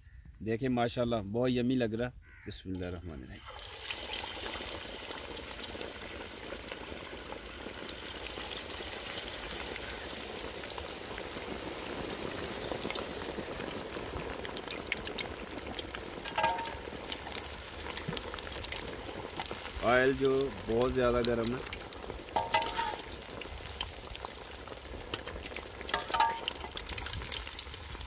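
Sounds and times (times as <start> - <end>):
chicken deep-frying in oil: 3.3 - 28.0.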